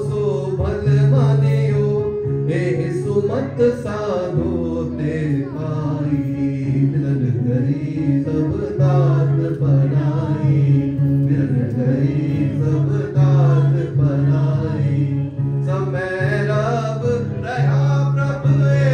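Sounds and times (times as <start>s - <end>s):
harmonium: 0.0s - 18.9s
man singing a hymn: 0.0s - 18.9s.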